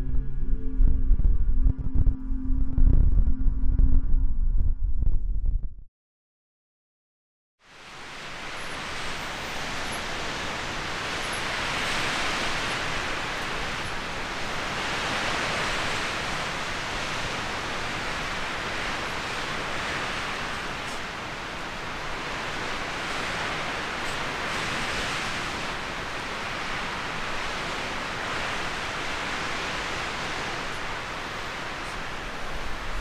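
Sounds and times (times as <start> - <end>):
steady rushing noise: 0.0 - 5.5, 7.7 - 33.0.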